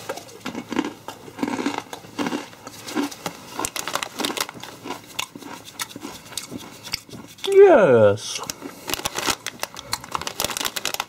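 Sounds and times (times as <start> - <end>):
person chewing crunchy crisps: 0.0 - 11.0.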